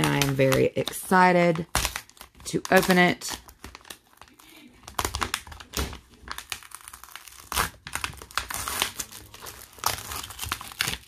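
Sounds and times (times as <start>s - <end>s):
foil mailer crinkling and tearing: 0.0s - 11.0s.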